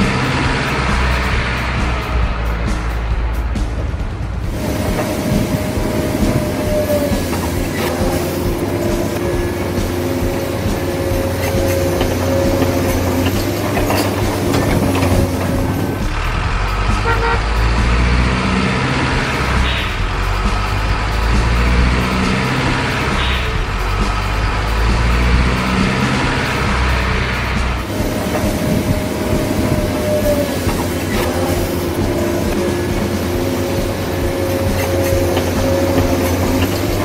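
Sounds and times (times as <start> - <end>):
truck engine running: 0.0 - 37.0
truck horn: 4.6 - 37.0.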